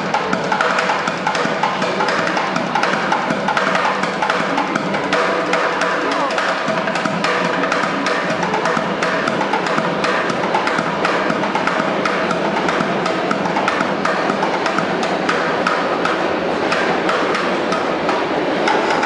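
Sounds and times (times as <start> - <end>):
person drumming fast rhythm: 0.0 - 19.0.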